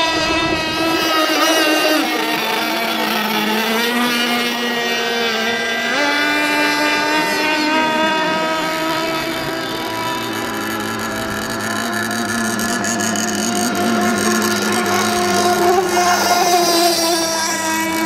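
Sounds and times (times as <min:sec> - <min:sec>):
model boat motor whine: 0:00.0 - 0:18.0.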